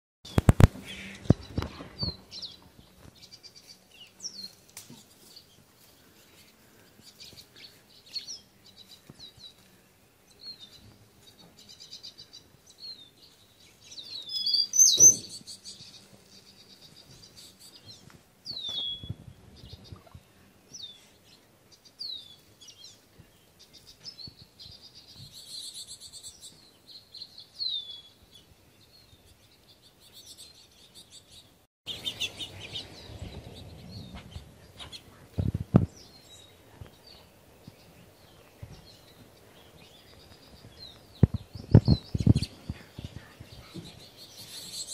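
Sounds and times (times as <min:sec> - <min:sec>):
songbirds chirping: 0:00.3 - 0:44.9.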